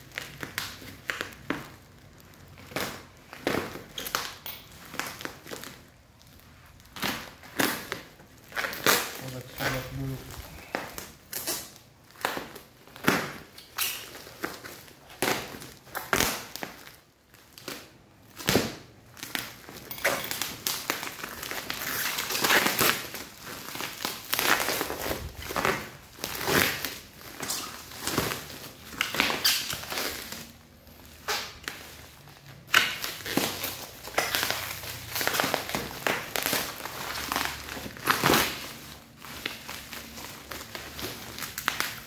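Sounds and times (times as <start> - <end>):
plastic bag crinkling: 0.0 - 42.0.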